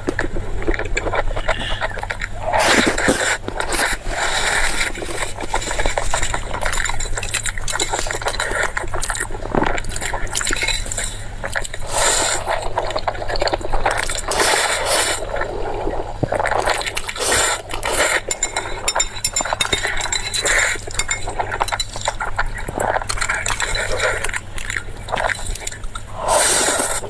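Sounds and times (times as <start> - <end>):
wet chewing and crunching: 0.0 - 27.0.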